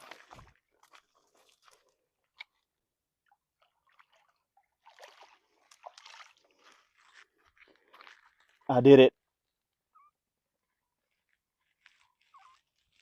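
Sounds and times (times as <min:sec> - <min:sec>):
water splashing and crackling: 0:00.0 - 0:08.7, 0:10.5 - 0:13.0.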